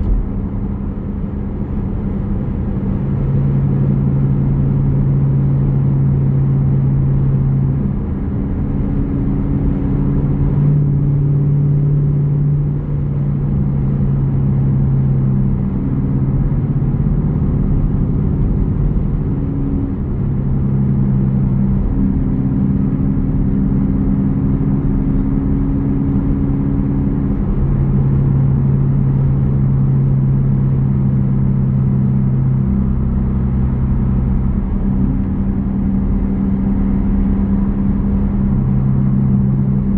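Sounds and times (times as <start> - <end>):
car exhaust rumbling: 0.0 - 39.9.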